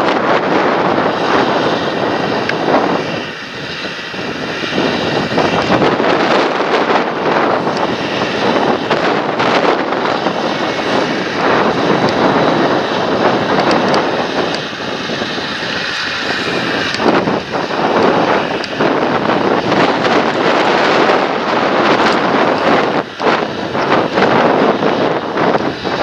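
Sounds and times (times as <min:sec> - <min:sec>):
tractor engine running: 0:00.0 - 0:26.0
wind buffeting microphone: 0:00.0 - 0:26.0.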